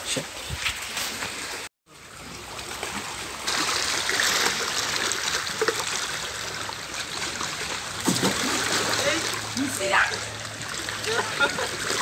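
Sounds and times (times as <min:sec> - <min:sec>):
water lapping around rocks: 0:00.8 - 0:12.0
small splashes: 0:01.3 - 0:12.0.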